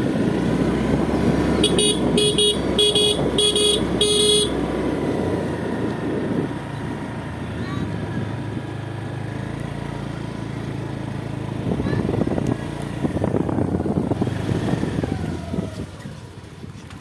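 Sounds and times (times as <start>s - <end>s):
motorcycle engine running: 0.0s - 17.0s
rumbling and crackling on rough road: 0.0s - 17.0s.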